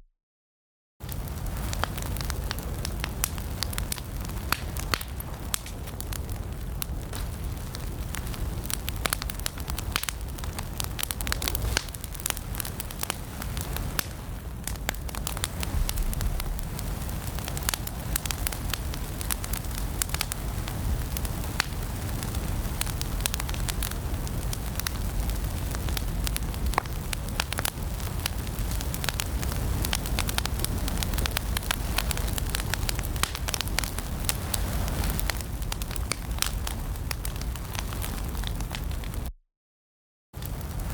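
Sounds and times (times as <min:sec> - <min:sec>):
low rumble of flame: 0:01.0 - 0:39.3, 0:40.4 - 0:40.9
fire crackling and popping: 0:01.0 - 0:39.4, 0:40.4 - 0:40.9.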